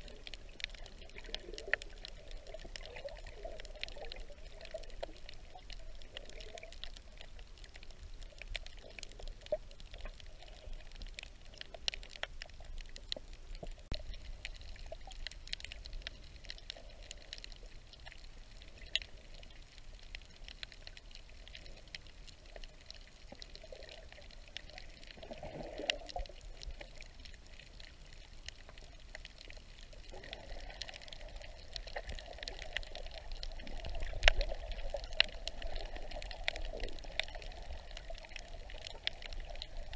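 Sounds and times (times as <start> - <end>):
muffled underwater movement: 0.0 - 39.9
sharp underwater clicks and crackles: 0.0 - 39.9.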